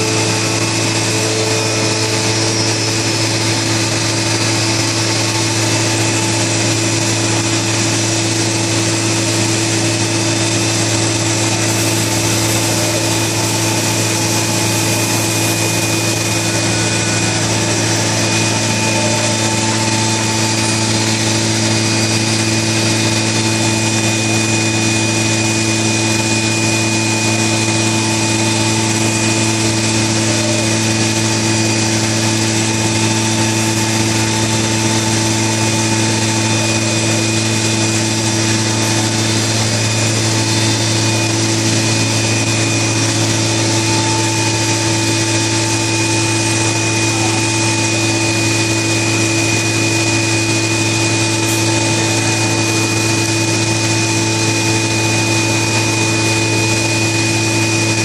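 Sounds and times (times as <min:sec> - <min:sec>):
router machining wood: 0:00.0 - 0:58.0.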